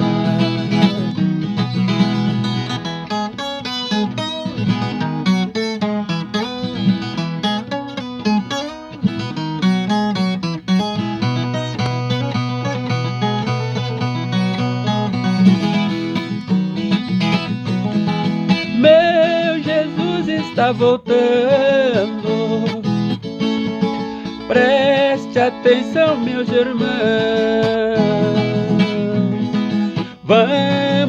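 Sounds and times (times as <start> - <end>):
steel-strung guitar plucking: 0.0 - 31.0.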